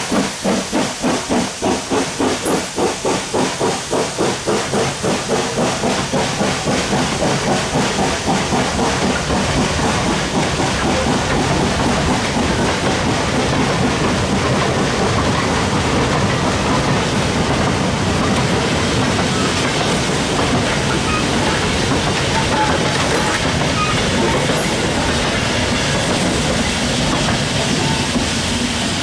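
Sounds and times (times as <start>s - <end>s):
steam locomotive exhaust beats: 0.0s - 29.0s.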